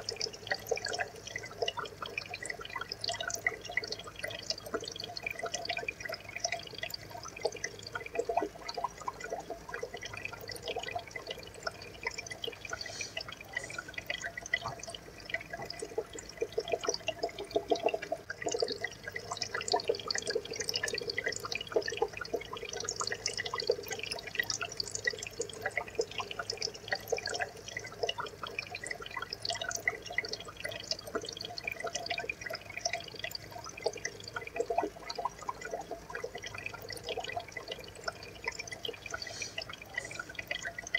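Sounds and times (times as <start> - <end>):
aquarium water trickling and bubbling: 0.0 - 40.9
tiny drips and pops: 0.0 - 40.9.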